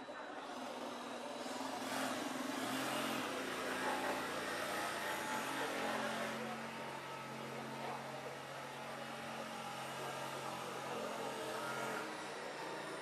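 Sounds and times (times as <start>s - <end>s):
jigsaw cutting wood: 0.4s - 13.0s.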